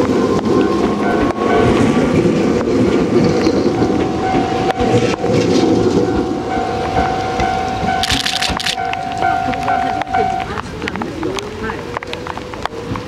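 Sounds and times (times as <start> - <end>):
steady tone: 0.0 - 11.5
train rumble: 0.0 - 13.0
wheels clicking over rail joints: 0.0 - 13.0.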